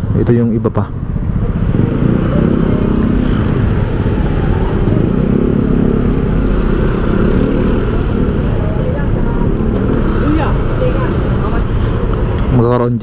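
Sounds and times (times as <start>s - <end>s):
motorcycle engine running: 0.0s - 12.8s
street traffic: 0.0s - 13.0s.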